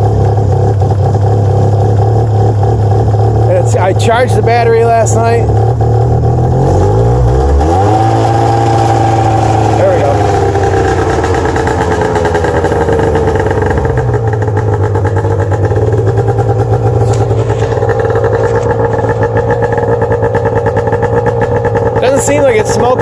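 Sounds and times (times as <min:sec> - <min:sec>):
snowmobile engine running: 0:00.0 - 0:23.0.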